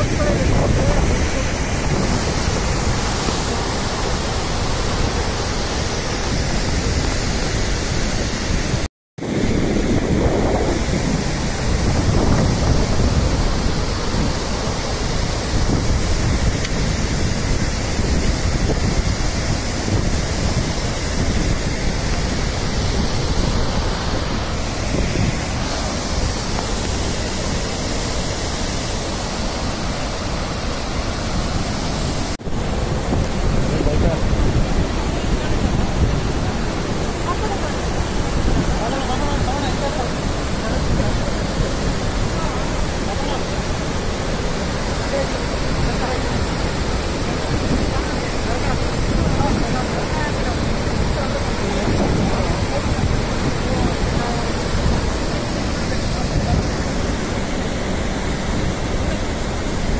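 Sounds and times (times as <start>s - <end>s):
rush of falling water: 0.0s - 59.9s
wind on the microphone: 0.0s - 59.9s.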